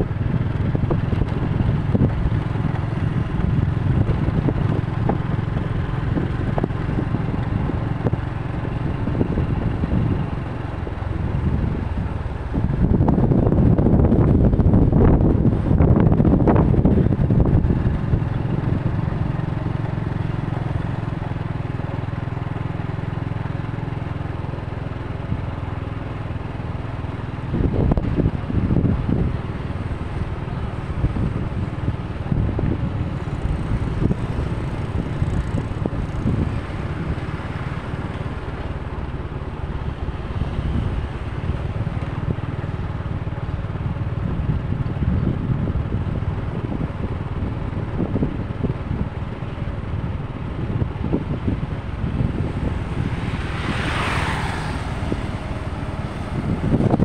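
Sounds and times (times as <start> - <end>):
street traffic rumble: 0.0 - 57.0
wind buffeting microphone: 0.0 - 57.0.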